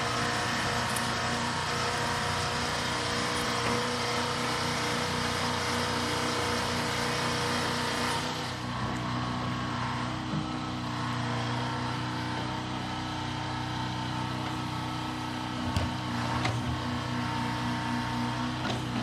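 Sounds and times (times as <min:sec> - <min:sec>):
large engine running: 0:00.0 - 0:19.0.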